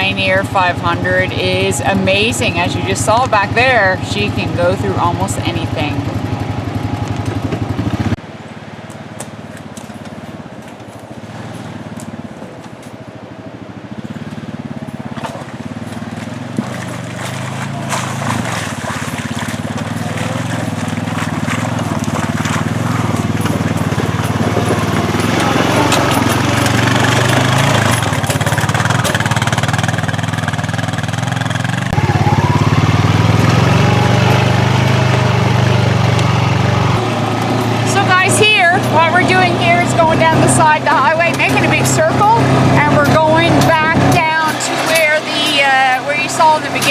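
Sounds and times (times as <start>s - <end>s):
utility vehicle engine driving: 0.0s - 46.9s.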